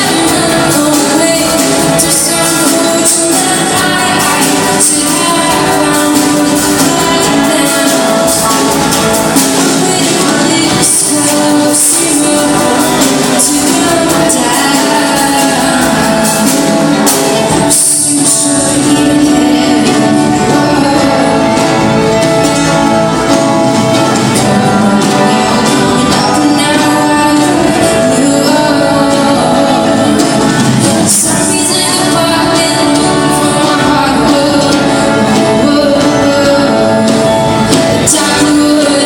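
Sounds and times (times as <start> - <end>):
instrumental backing music: 0.0 - 39.0
person singing: 0.0 - 39.0.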